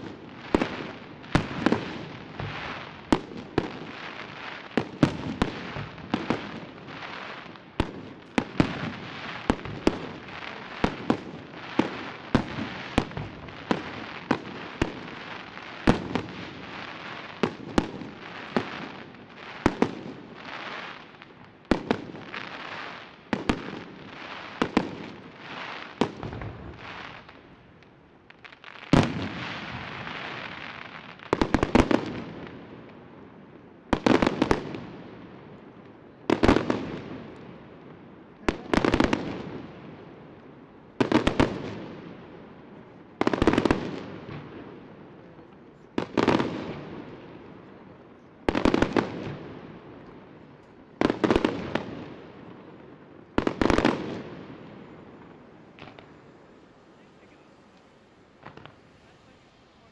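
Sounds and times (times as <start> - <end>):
firework crackle: 0.0 - 59.9.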